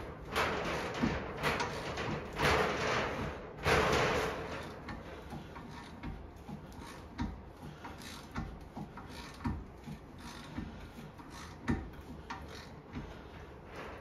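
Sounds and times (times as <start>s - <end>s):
bearing press tool rasping: 0.0s - 14.0s
faint ticks and knocks: 0.0s - 14.0s.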